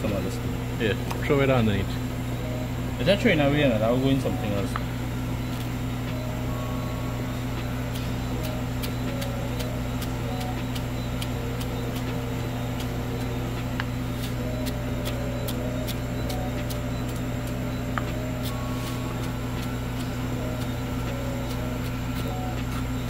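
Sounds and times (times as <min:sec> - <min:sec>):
loud steady low hum: 0:00.0 - 0:23.0.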